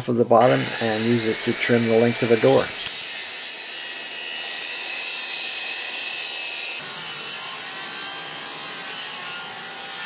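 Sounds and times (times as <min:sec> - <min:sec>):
circular saw cutting wood: 0:00.0 - 0:10.0.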